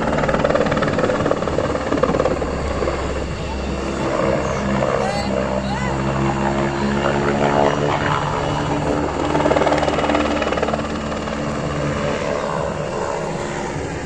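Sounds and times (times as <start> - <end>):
helicopter rotor blades beating: 0.0 - 14.0.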